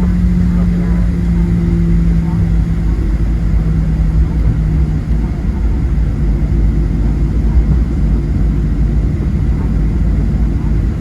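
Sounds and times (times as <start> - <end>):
low rumble in airplane cabin: 0.0 - 11.0.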